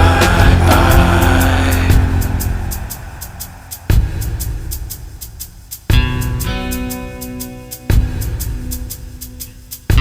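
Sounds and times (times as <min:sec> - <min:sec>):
steady drum beat: 0:00.0 - 0:10.0
strummed guitar chords: 0:00.0 - 0:10.0.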